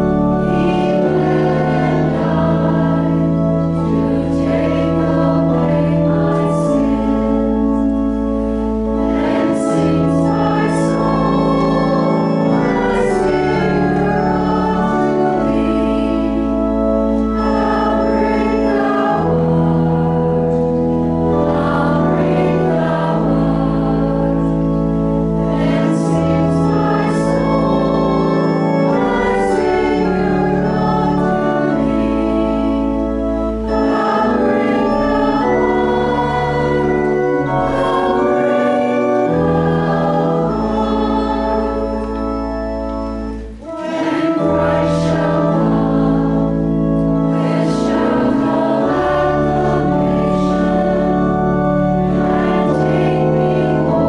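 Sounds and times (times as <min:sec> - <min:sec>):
congregation singing a hymn: 0:00.0 - 0:54.0
organ accompaniment: 0:00.0 - 0:54.0.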